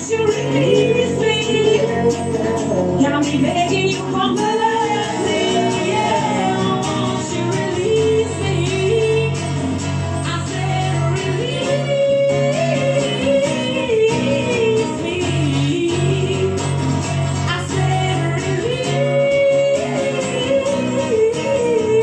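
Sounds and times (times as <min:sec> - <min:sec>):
strummed acoustic guitars: 0:00.0 - 0:22.0
woman singing: 0:00.0 - 0:22.0.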